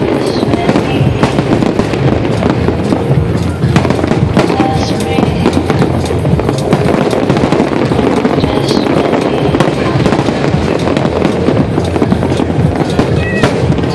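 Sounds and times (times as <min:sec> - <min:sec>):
fireworks bangs and crackling: 0:00.0 - 0:13.9.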